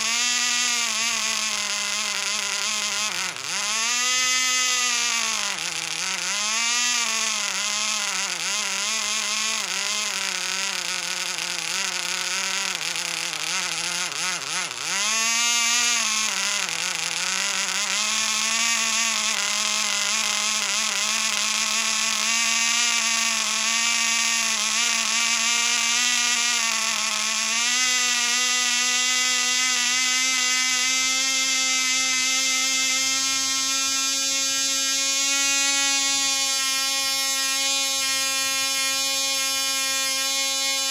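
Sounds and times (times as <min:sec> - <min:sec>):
model engine high-pitched buzzing whine: 0:00.0 - 0:40.9.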